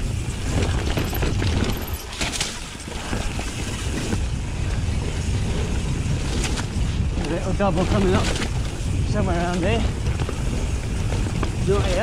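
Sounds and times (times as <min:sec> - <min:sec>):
bike rattling over bumps: 0:00.0 - 0:12.0
tyres rolling over dirt: 0:00.0 - 0:12.0
wind buffeting microphone: 0:00.0 - 0:12.0.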